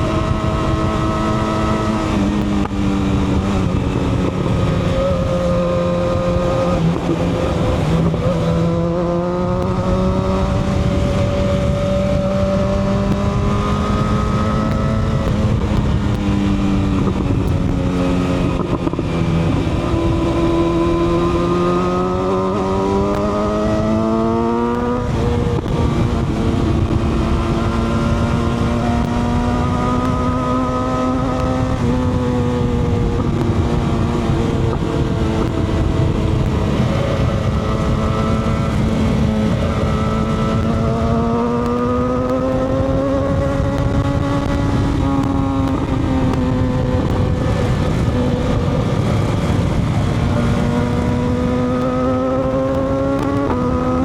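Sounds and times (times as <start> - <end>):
motorcycle engine revving: 0.0 - 54.0
steady rushing noise: 0.0 - 54.0.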